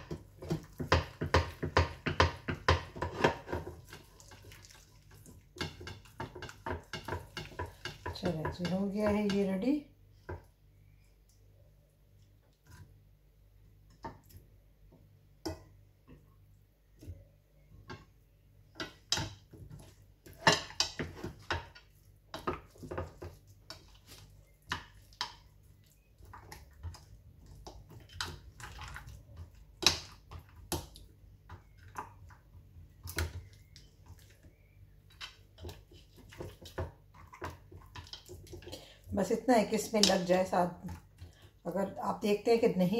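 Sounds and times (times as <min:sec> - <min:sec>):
wet squelchy batter: 0:00.0 - 0:42.9.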